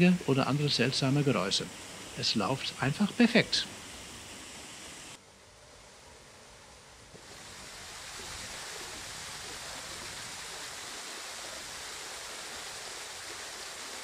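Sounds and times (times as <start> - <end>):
water rushing off mill wheel: 0.0 - 5.2, 7.2 - 14.0.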